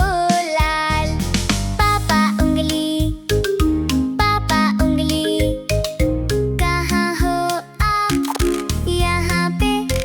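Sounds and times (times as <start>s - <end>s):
upbeat children's music: 0.0s - 10.0s.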